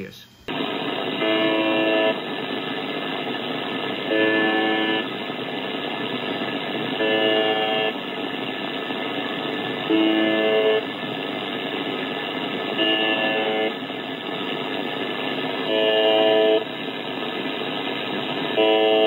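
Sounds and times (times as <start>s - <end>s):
shortwave static: 0.0s - 19.0s
buzzing tone: 0.2s - 19.0s.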